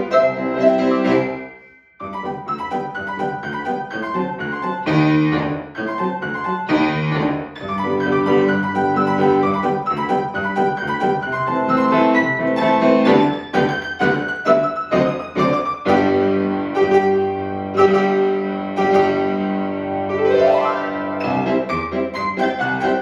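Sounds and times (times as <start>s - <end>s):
fast piano piece: 0.0s - 23.0s.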